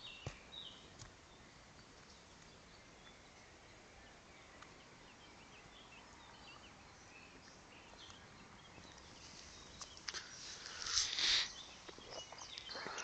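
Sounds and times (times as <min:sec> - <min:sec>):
faint bird chirps: 0:00.0 - 0:13.0
outdoor background hiss: 0:00.0 - 0:13.0.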